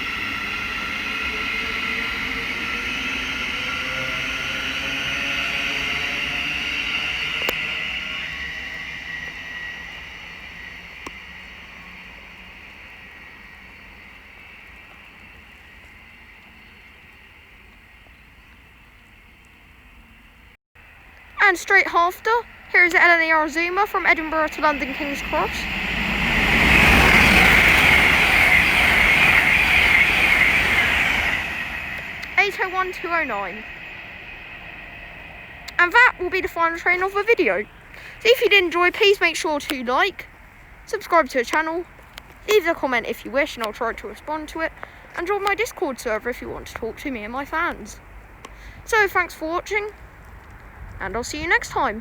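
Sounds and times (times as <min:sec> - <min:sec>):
high hiss: 0:00.0 - 0:50.8
electric train pulling away: 0:00.0 - 0:52.0.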